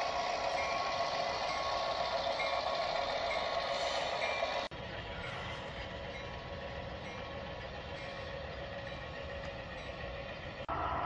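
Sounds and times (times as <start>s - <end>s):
higher engine drone: 0.0s - 11.0s
model train low rumble: 0.0s - 11.0s.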